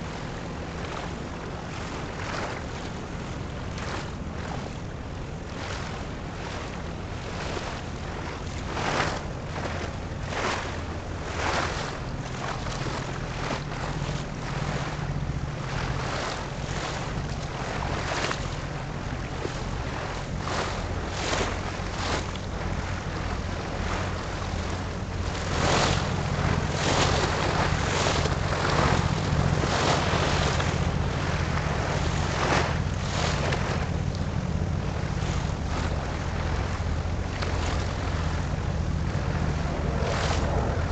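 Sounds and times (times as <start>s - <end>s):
ship engine low hum: 0.0s - 40.9s
water noise: 0.0s - 40.9s
wind buffeting microphone: 0.0s - 40.9s.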